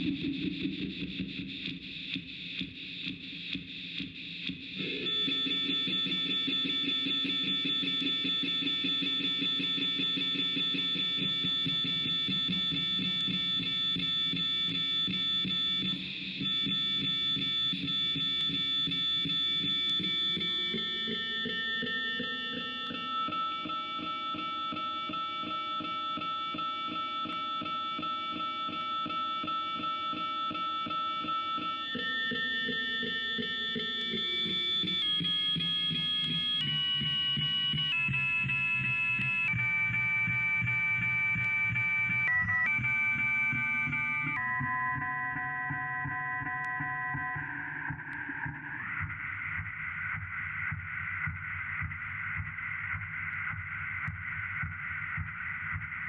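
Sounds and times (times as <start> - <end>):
electronic telephone droning buzz: 4.6 - 56.0.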